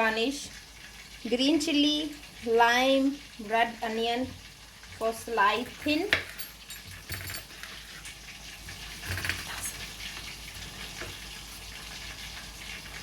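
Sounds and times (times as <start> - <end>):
chicken sizzling in hot oil: 0.0 - 6.7, 7.4 - 13.0.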